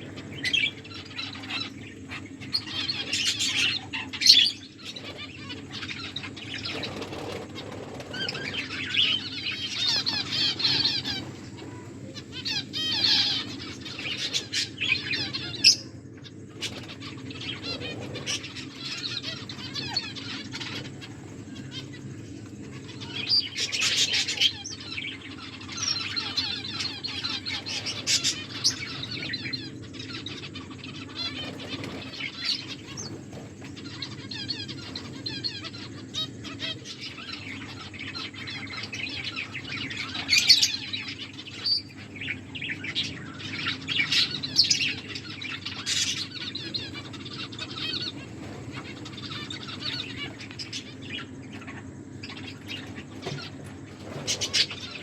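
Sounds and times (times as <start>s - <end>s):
finches chirping: 0.0s - 55.0s
wing flutters: 0.0s - 55.0s.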